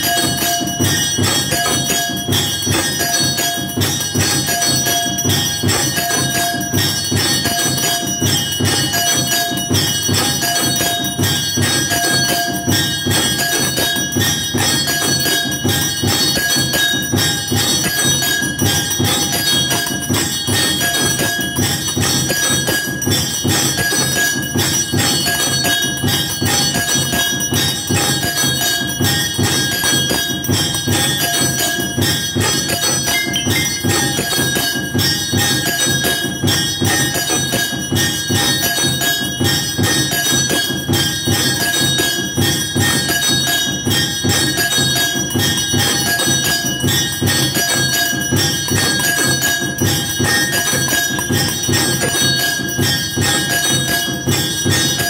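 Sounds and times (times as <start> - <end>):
bells ringing with fast strikes: 0.0 - 55.0.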